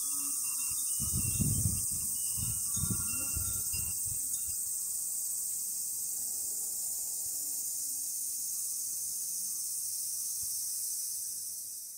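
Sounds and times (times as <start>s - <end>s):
cicadas buzzing: 0.0s - 11.9s.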